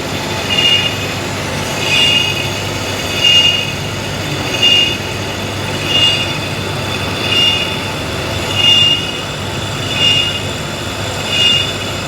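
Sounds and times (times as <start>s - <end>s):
high squeal: 0.0s - 12.0s
metal lathe running: 0.0s - 12.0s.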